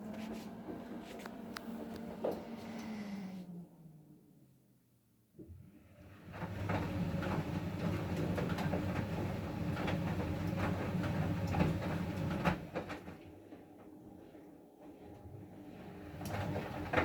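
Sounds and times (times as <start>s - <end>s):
washing machine motor humming: 0.0s - 4.4s, 5.8s - 17.0s.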